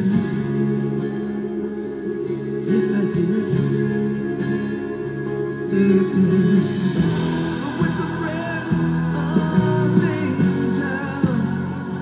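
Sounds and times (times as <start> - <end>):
person singing: 0.0 - 12.0
plucked guitar: 0.0 - 12.0.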